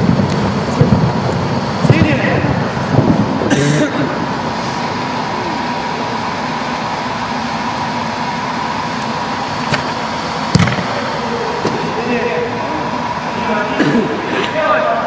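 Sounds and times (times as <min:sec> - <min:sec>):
rushing ventilation noise: 0:00.0 - 0:15.0.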